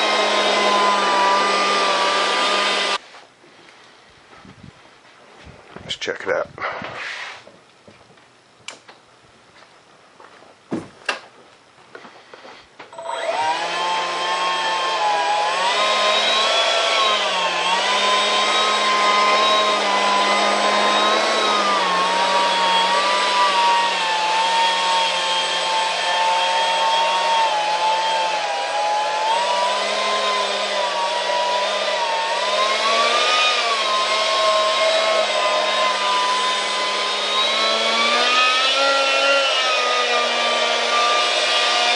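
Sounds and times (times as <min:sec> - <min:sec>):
electric ducted fan whining: 0:00.0 - 0:06.6, 0:07.6 - 0:41.9.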